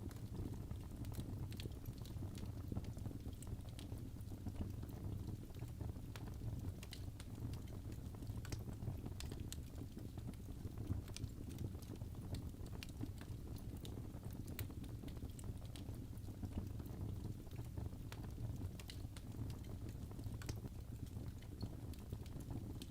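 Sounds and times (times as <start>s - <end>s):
low rumble of flames: 0.0s - 22.9s
wood fire crackling: 0.0s - 22.9s.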